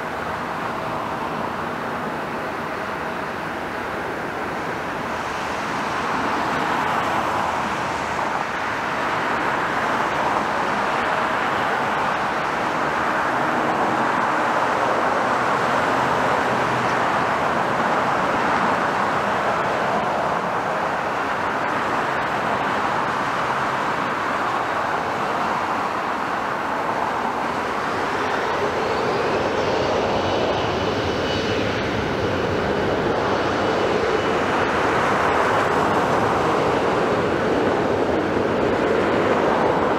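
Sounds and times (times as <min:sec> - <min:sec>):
high jet whine: 0:00.0 - 0:39.9
jet engine rush: 0:00.0 - 0:39.9.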